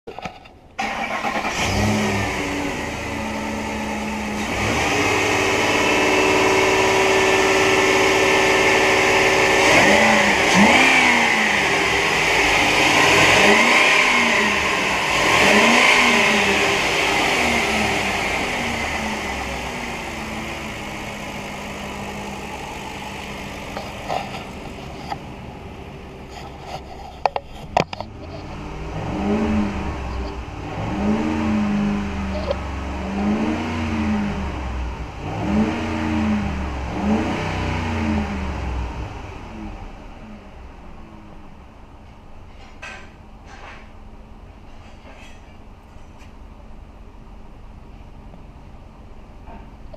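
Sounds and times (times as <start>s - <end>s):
truck engine idling and revving: 0.7s - 49.9s.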